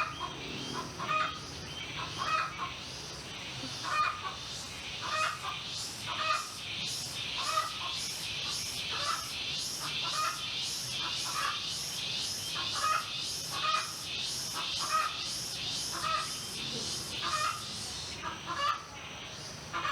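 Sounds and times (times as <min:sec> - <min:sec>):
birds calling: 0:00.0 - 0:19.9.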